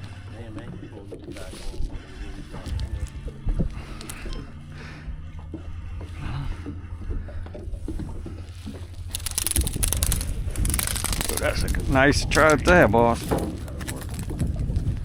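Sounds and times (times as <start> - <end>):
fish splashing and crackling: 0.0 - 15.0
low rumble: 0.0 - 15.0.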